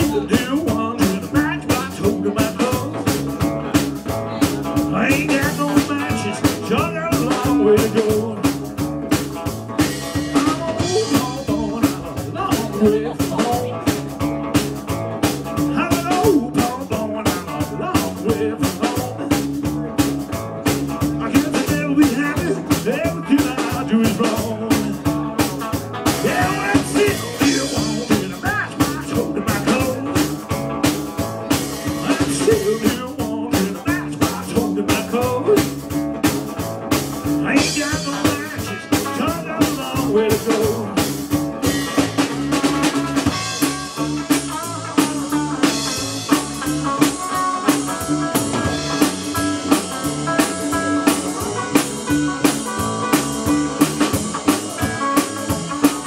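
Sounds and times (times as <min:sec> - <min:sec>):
drum kit beat: 0:00.0 - 0:56.0
electric guitar: 0:00.0 - 0:56.0
plucked double bass: 0:00.0 - 0:56.0.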